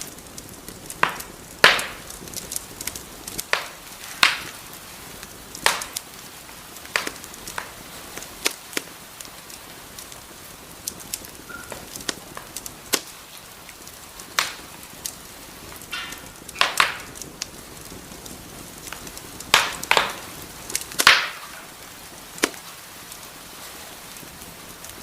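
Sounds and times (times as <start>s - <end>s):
fire crackling and popping: 0.0s - 25.0s
fire hissing: 0.0s - 25.0s
loud snaps of burning wood: 0.0s - 25.0s.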